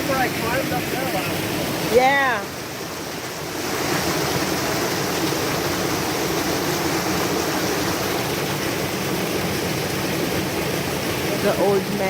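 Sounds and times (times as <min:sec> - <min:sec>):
forest stream flowing: 0:00.0 - 0:12.0.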